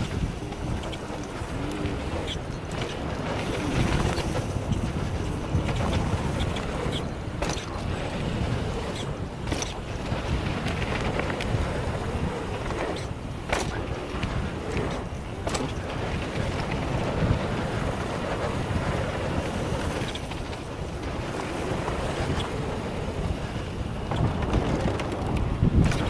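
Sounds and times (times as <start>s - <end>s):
bike rattling over ground: 0.0s - 26.0s
wind rushing over microphone: 0.0s - 26.0s.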